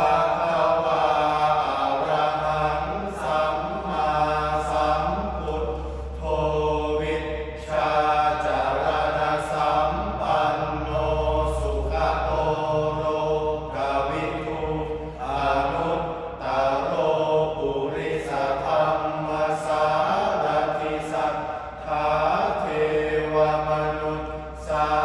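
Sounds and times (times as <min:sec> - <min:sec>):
young men chanting in unison: 0:00.0 - 0:25.0.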